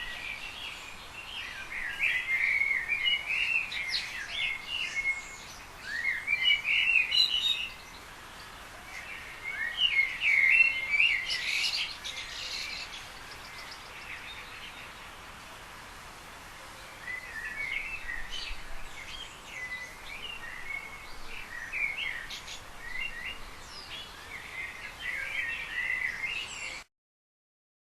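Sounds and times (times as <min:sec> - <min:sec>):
songbirds chirping and singing: 0:00.0 - 0:15.4, 0:16.7 - 0:26.9
steady background hiss: 0:00.0 - 0:26.8.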